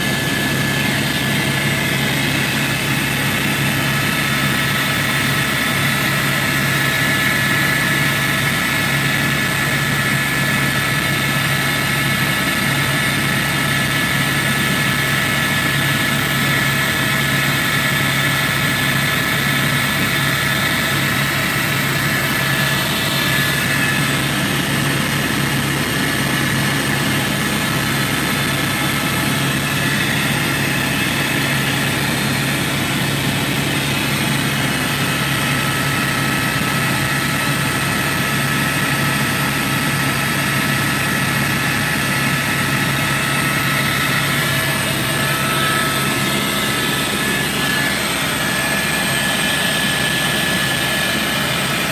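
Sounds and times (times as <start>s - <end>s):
helicopter engine and rotor drone: 0.0s - 51.9s.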